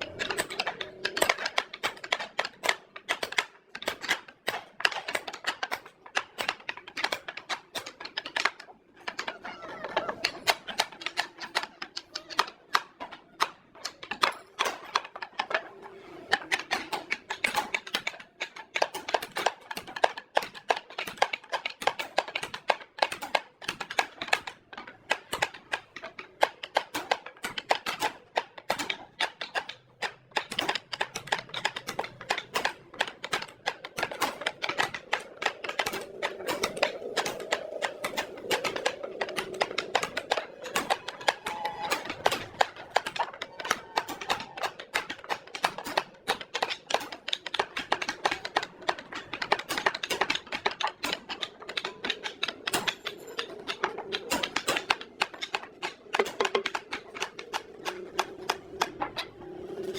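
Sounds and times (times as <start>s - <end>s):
dense clicking and tapping: 0.0s - 59.9s.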